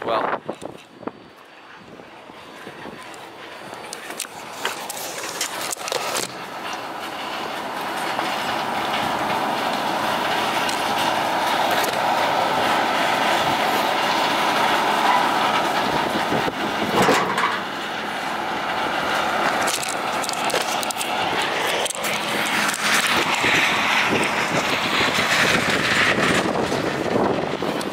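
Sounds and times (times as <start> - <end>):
truck engine and road noise: 0.0 - 27.9.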